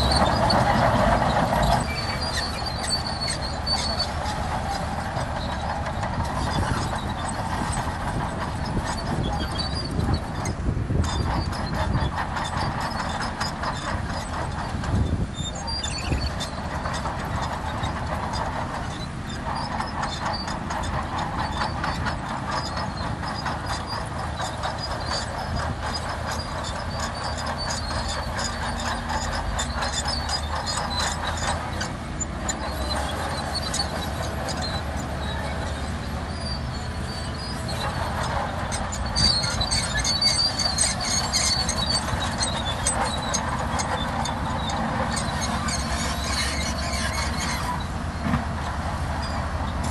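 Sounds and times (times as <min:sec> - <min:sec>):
diesel engine running: 0:00.0 - 0:49.9
steel tracks clattering and squealing: 0:00.0 - 0:49.9.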